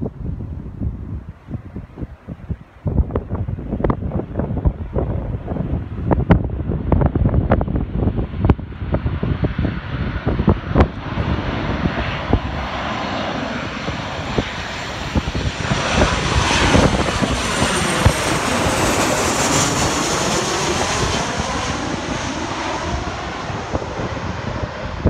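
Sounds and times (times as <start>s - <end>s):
wind knocking on microphone: 0.0s - 12.7s, 13.7s - 21.8s
jet airliner flying overhead: 0.0s - 25.0s.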